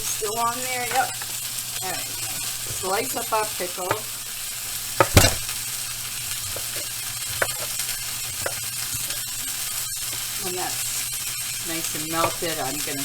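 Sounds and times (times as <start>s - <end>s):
patties sizzling in a frying pan: 0.0s - 13.0s.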